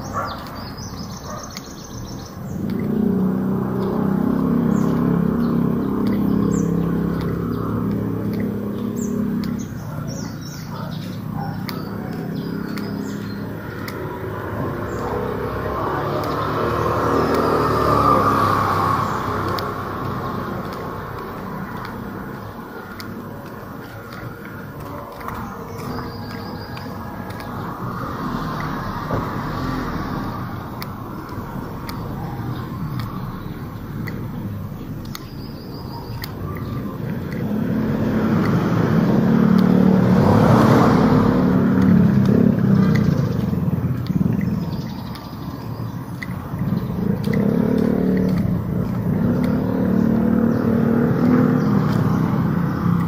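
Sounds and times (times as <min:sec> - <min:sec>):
vehicle passing: 0:00.0 - 0:53.0.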